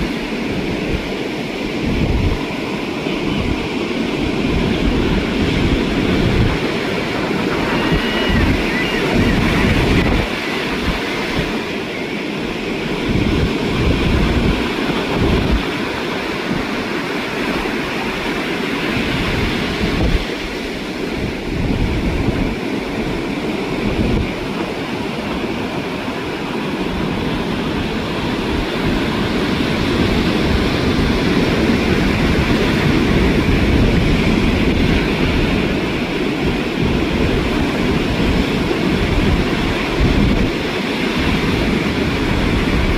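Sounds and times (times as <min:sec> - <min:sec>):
ocean surf washing ashore: 0:00.0 - 0:42.9
wind buffeting microphone: 0:00.0 - 0:42.9.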